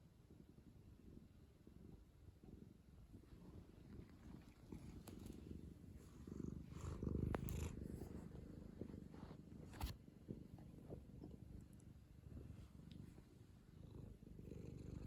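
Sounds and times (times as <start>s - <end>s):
cat purring: 0.3s - 15.0s.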